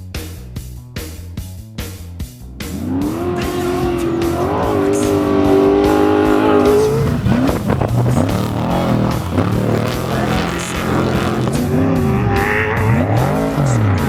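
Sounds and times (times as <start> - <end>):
race vehicle engine revving: 2.7 - 14.0.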